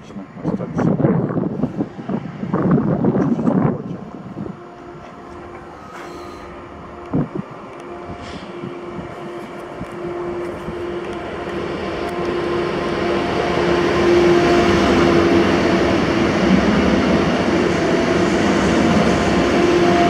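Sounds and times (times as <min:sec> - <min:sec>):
electric train hum: 0:00.0 - 0:20.0
train rolling past: 0:00.0 - 0:20.0.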